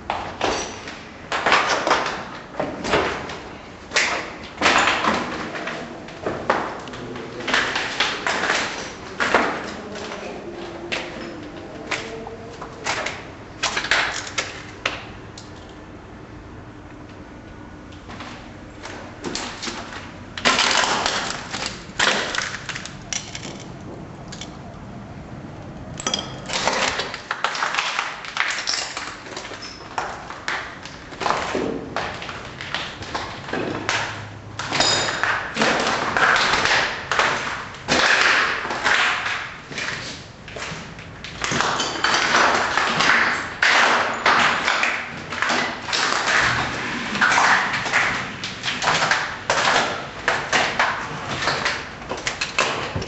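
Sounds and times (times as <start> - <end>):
objects rattling and clattering: 0.1 - 14.8, 18.1 - 24.6, 26.0 - 53.0.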